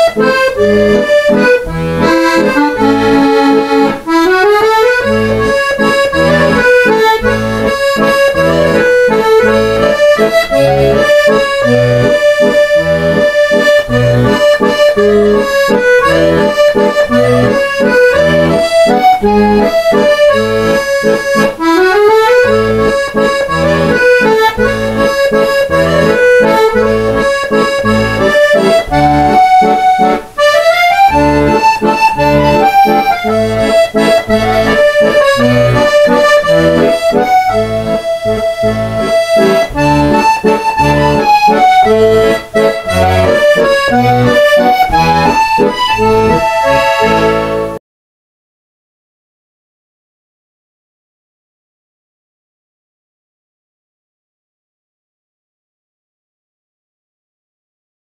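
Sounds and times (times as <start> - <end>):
instrumental music with bass beat: 0.0 - 47.8.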